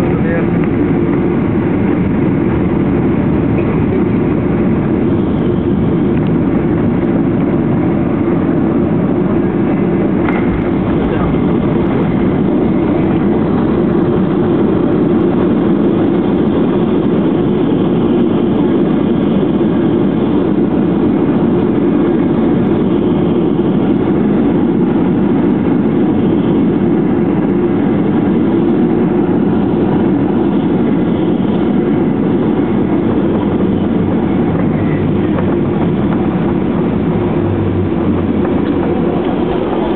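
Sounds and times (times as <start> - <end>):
jet engine rumble: 0.0 - 39.9
wheels rolling on runway: 0.0 - 39.9.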